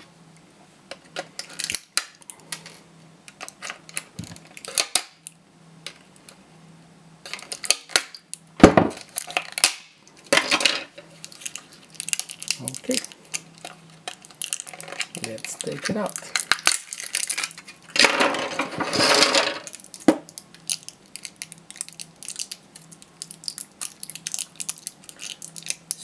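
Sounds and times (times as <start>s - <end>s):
plastic casing cracking open: 1.0s - 6.4s, 7.3s - 10.6s, 11.2s - 18.6s, 19.2s - 26.0s.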